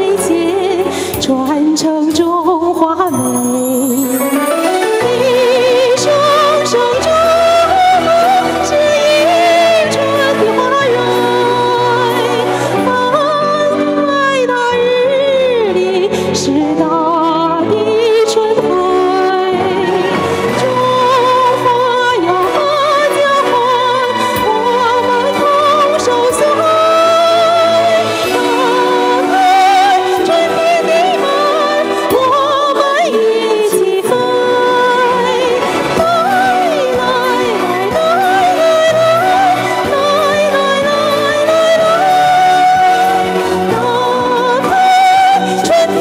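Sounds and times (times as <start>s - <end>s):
backing track: 0.0s - 46.0s
woman singing into microphone: 0.0s - 46.0s.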